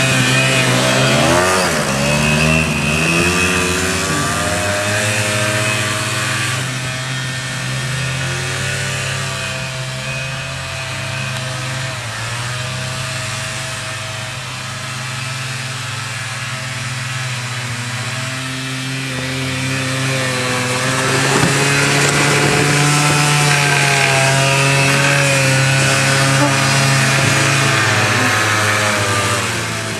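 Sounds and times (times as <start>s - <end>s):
quad bike engine revving: 0.0s - 29.9s.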